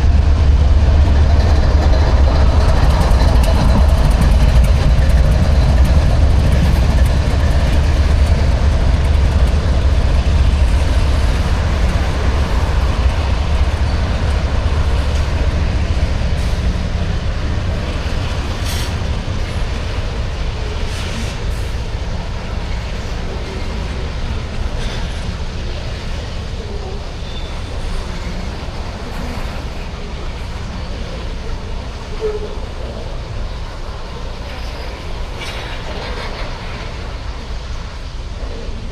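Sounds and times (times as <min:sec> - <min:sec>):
diesel locomotive rumble: 0:00.0 - 0:38.9
freight cars rolling on track: 0:00.0 - 0:38.9.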